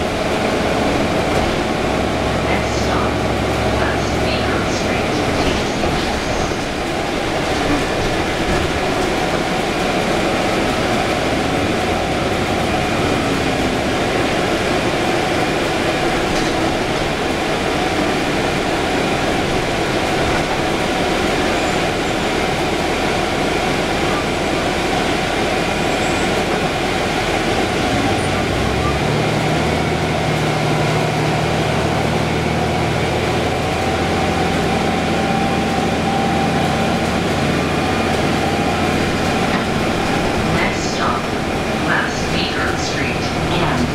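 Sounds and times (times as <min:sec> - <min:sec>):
bus drivetrain hum: 0:00.0 - 0:43.9
road and tyre noise: 0:00.0 - 0:43.9.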